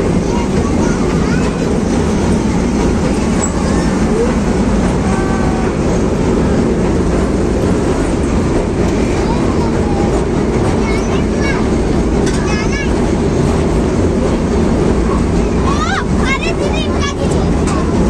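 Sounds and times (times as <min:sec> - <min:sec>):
faint voices: 0:00.0 - 0:18.0.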